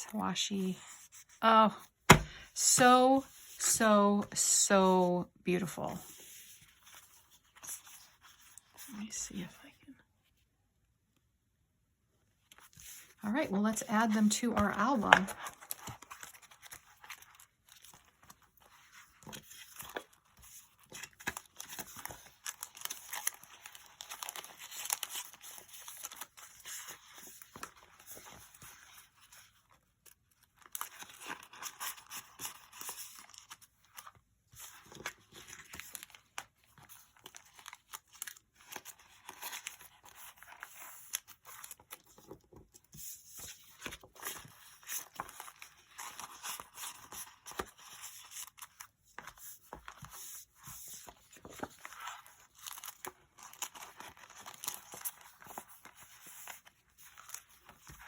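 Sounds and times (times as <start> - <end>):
paper crinkling and rustling: 6.0 - 9.1, 12.4 - 58.0.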